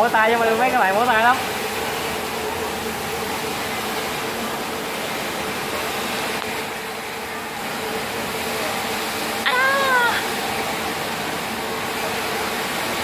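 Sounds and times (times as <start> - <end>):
industrial machine whirring hum: 0.0 - 13.0.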